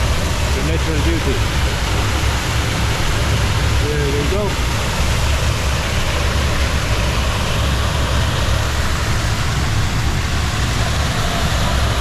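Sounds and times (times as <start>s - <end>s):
waterfall rushing with deep rumble: 0.0s - 12.0s.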